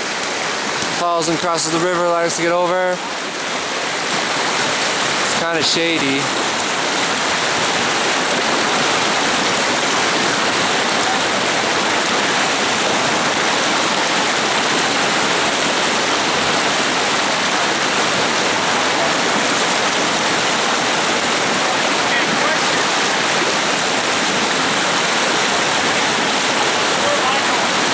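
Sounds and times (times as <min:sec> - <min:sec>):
river rushing: 0:00.0 - 0:27.9.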